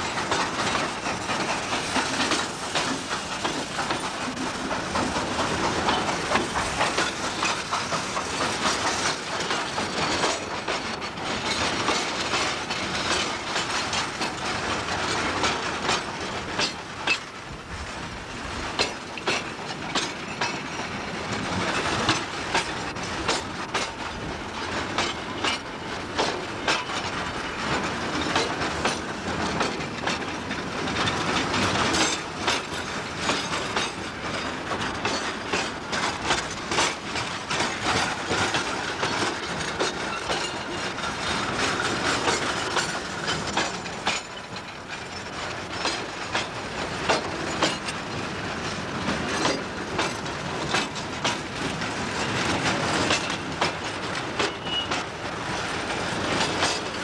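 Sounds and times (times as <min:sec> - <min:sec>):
wagon wheels clattering over rails: 0:00.0 - 0:17.4, 0:18.4 - 0:57.0.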